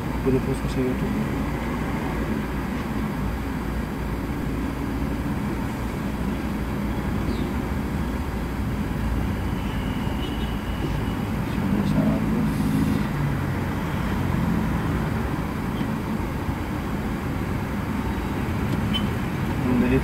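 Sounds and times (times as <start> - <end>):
car idling in traffic: 0.0 - 20.0.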